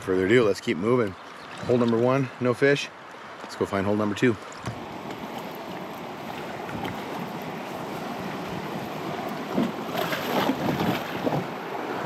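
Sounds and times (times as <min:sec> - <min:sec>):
creek water rushing: 0:00.0 - 0:12.0
water splashing: 0:01.2 - 0:12.0.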